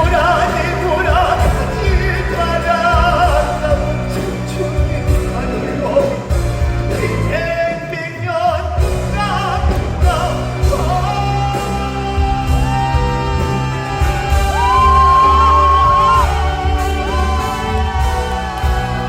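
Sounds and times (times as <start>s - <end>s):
man singing a ballad: 0.0s - 17.1s
band playing: 0.0s - 19.0s.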